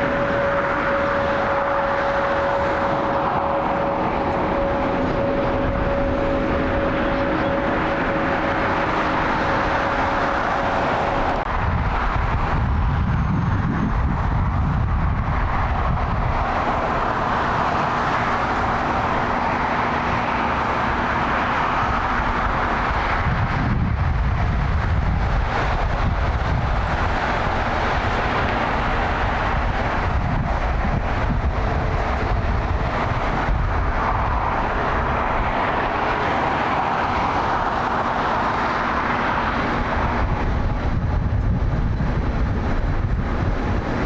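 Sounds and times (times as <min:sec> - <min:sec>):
jet engine rush: 0:00.0 - 0:44.0
low rumble: 0:00.0 - 0:44.0.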